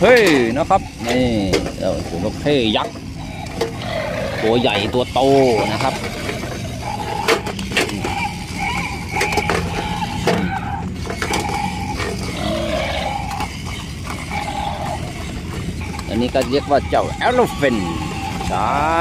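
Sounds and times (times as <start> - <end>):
toy gear motors whirring: 0.0 - 19.0.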